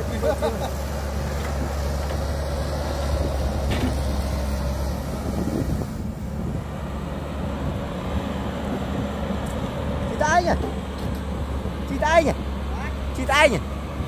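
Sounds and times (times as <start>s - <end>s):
excavator diesel engine under load: 0.0s - 14.0s.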